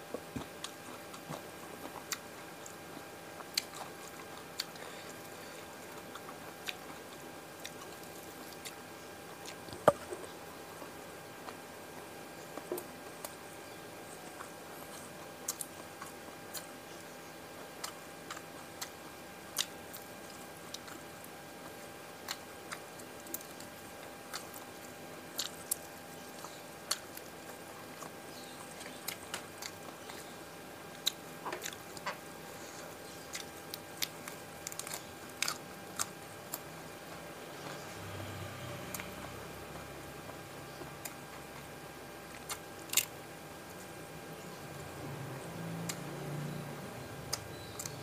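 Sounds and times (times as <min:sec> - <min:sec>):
chewing and crunching food: 0:00.0 - 0:48.0
faint steady hum: 0:00.0 - 0:48.0.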